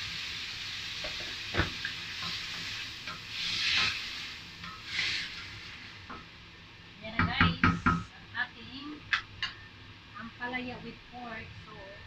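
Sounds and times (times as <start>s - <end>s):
stir-fry sizzling and hissing: 0.0s - 12.0s.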